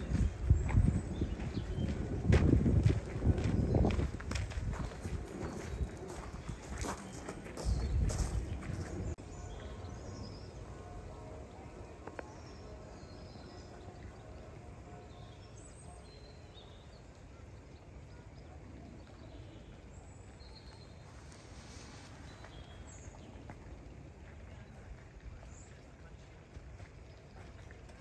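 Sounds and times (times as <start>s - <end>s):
low background noise: 0.0s - 28.0s.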